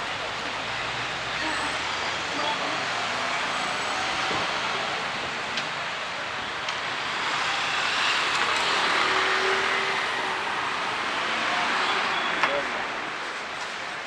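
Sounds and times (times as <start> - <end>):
traffic on wet road: 0.0 - 14.0.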